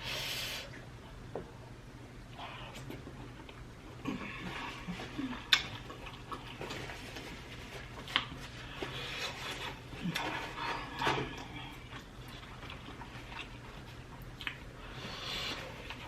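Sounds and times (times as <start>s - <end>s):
wet crackly chewing: 2.7s - 16.0s.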